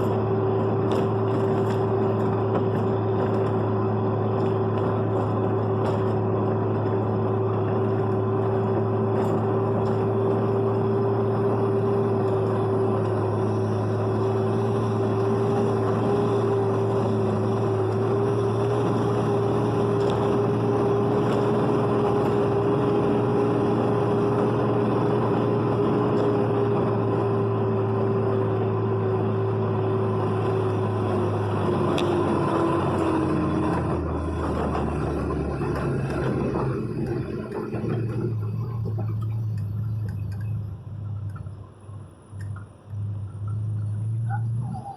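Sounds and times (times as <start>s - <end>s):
vehicle engine and road hum: 0.0s - 44.9s.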